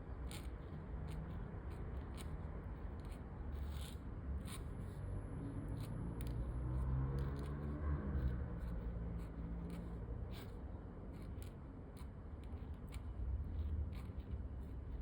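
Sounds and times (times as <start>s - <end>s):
pen nib scratching paper: 0.0s - 15.0s.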